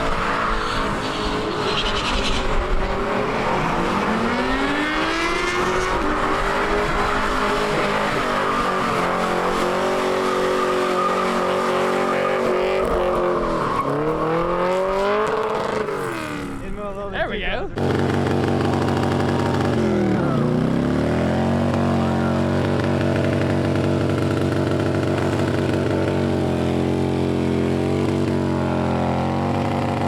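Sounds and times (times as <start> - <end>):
race car engine revving: 0.0 - 16.8, 17.8 - 30.0.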